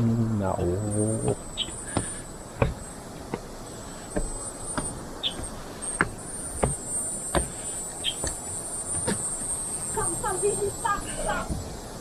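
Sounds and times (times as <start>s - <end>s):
footsteps climbing stairs: 0.0s - 11.8s
high-pitched insect trill: 0.0s - 12.0s.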